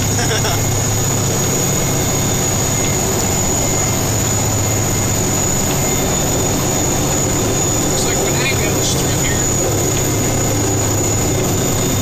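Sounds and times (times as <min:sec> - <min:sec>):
high-pitched whine: 0:00.0 - 0:12.0
truck engine and road noise: 0:00.0 - 0:12.0.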